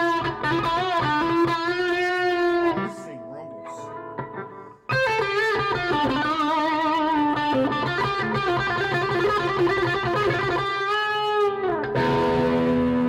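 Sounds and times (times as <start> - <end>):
electric guitar lead line: 0.0 - 13.0.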